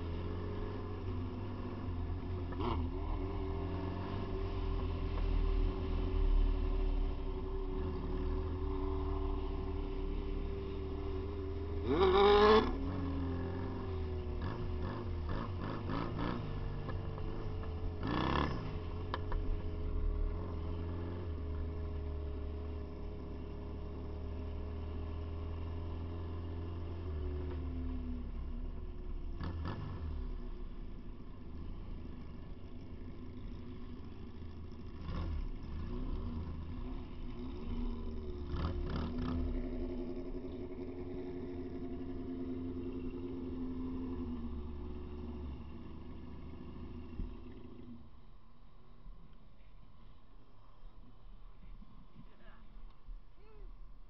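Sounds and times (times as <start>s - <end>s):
motorcycle engine revving: 0.0s - 48.1s.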